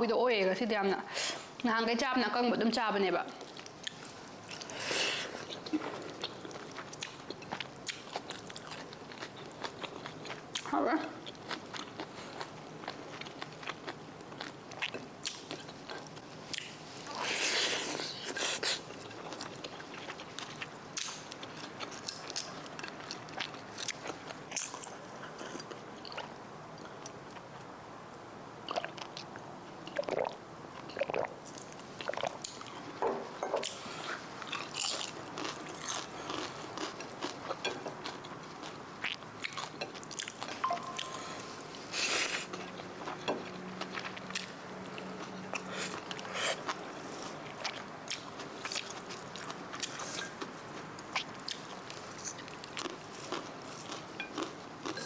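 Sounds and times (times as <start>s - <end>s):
person chewing crunchy food: 3.4s - 27.6s, 33.6s - 55.0s.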